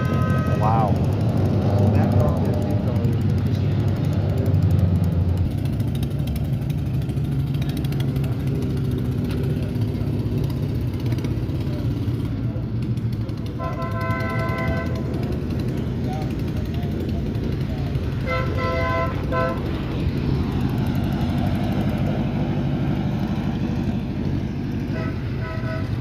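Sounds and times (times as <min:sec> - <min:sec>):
race car engines running: 0:00.0 - 0:26.0.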